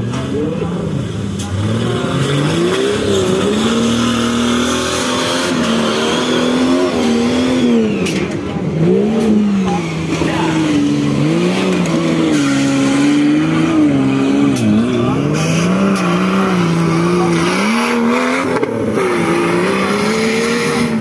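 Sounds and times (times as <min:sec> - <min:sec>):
buggy engine revving: 0:00.0 - 0:21.0.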